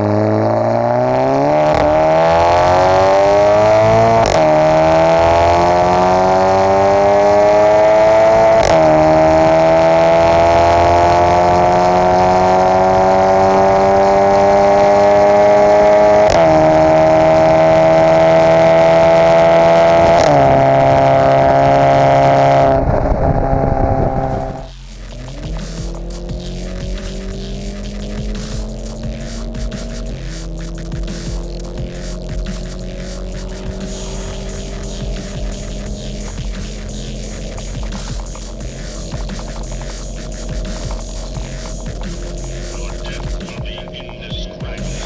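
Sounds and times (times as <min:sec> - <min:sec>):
car engine accelerating: 0:00.0 - 0:45.0
exhaust cracks: 0:00.0 - 0:45.0.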